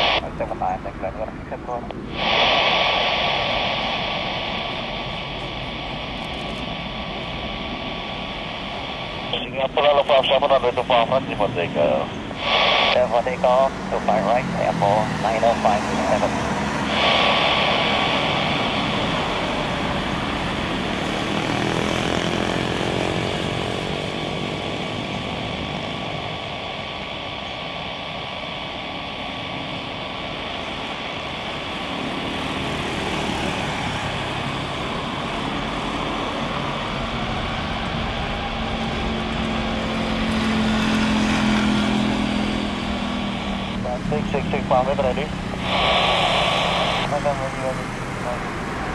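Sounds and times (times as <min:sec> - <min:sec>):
jet engine roar with whine: 0:00.0 - 0:48.9.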